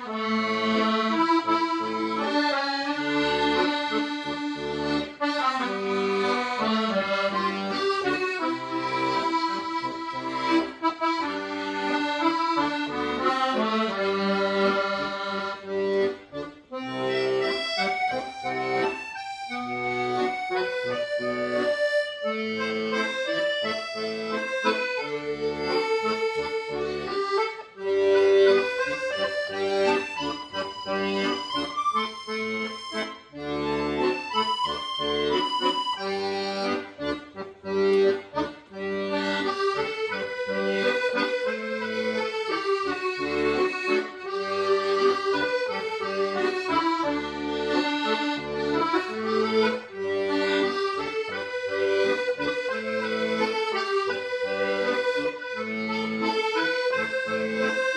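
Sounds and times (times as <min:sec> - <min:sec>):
accordion playing a melody: 0:00.0 - 0:57.9.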